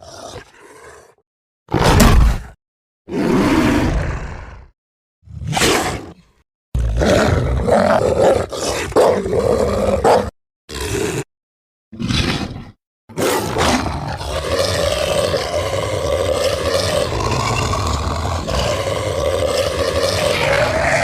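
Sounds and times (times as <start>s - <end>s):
creature roar: 0.0s - 4.8s, 6.8s - 11.3s, 12.0s - 21.0s.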